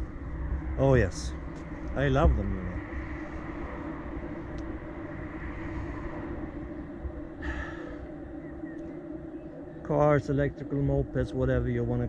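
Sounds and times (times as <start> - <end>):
low hum and rumble: 0.0 - 12.0.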